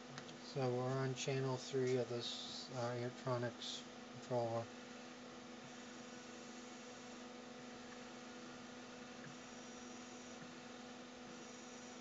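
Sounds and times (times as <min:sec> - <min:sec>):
wiper motor electrical hum: 0:00.0 - 0:12.0.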